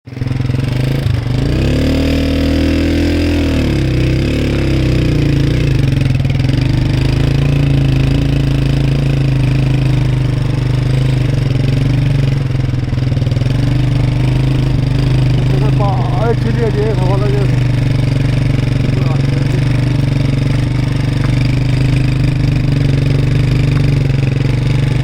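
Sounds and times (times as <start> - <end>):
vehicle engine running: 0.1 - 25.0.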